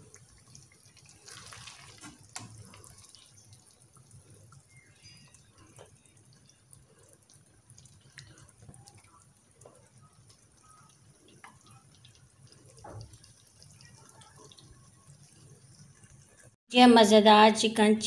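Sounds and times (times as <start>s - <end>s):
small wet clicks: 0.0s - 16.6s.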